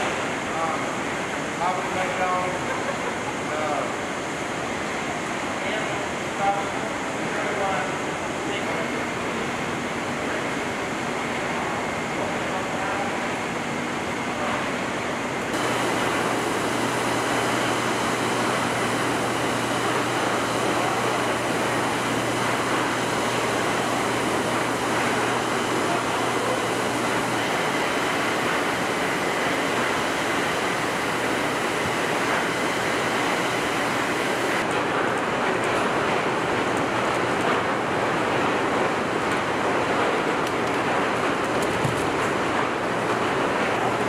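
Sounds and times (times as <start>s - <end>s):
factory floor rushing noise: 0.0s - 44.0s.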